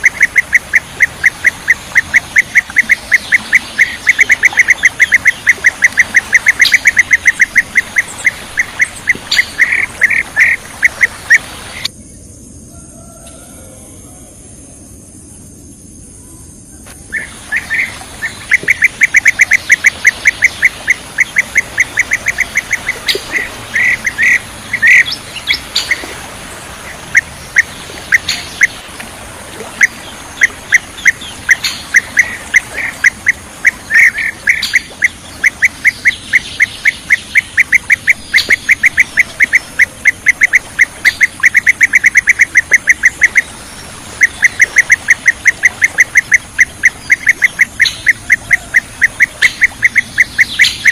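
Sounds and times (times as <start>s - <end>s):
bird chirping rapidly: 0.0s - 11.9s, 17.1s - 26.1s, 26.8s - 28.8s, 29.7s - 50.9s.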